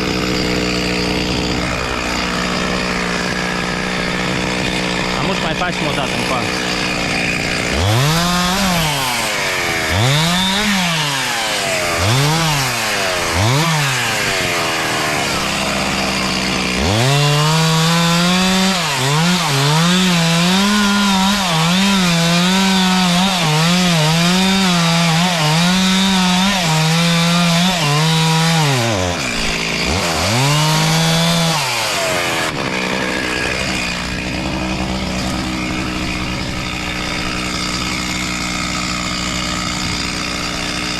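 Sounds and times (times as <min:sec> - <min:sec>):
chainsaw revving and cutting wood: 0:00.0 - 0:40.9.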